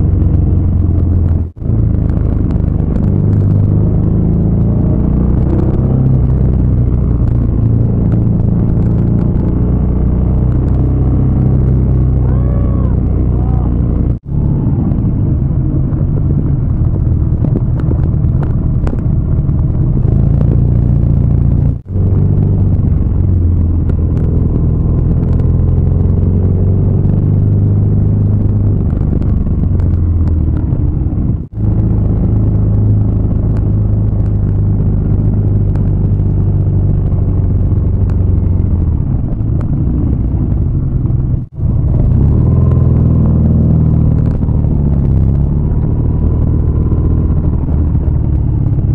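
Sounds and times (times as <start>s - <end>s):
motorcycle engine running: 0.0s - 48.9s
wind rushing: 0.0s - 48.9s.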